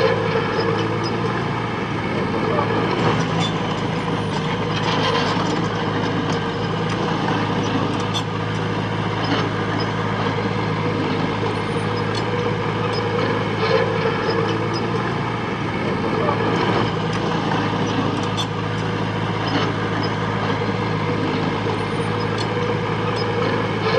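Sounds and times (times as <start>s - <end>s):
heavy diesel engine under load: 0.0s - 23.9s.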